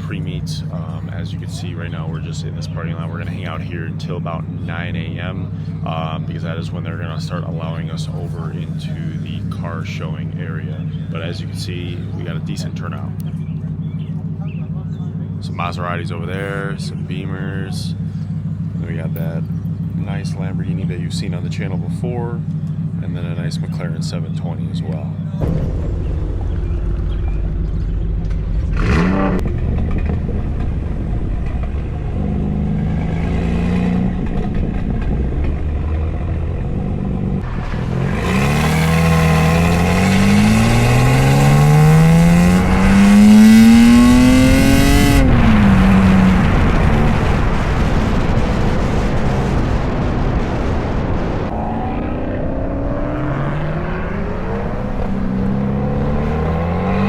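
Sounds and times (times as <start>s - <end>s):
sports car engine accelerating: 0.0s - 57.0s.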